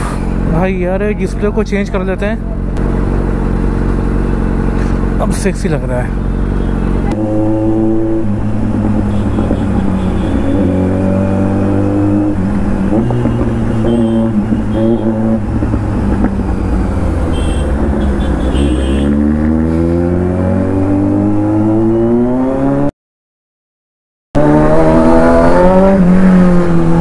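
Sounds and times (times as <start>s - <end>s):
motorcycle engine revving: 2.4s - 22.9s, 24.4s - 27.0s.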